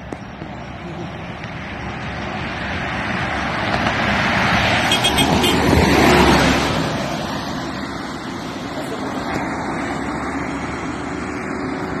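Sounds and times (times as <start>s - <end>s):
bus passing: 0.0s - 12.0s
road noise rumble: 0.0s - 12.0s.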